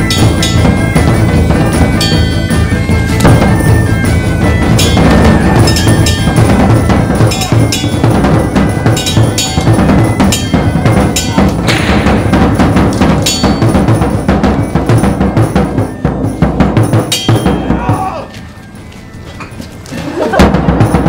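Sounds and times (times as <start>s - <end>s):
sharp percussion hits: 0.0s - 18.3s, 20.0s - 21.0s
music with heavy drums: 0.0s - 21.0s.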